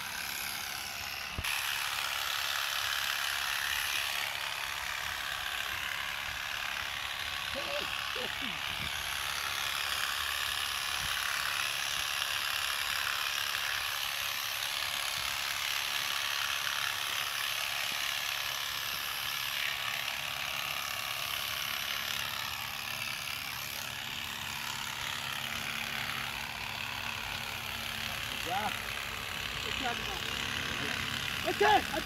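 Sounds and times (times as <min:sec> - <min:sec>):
electric clippers running: 0:00.0 - 0:32.0.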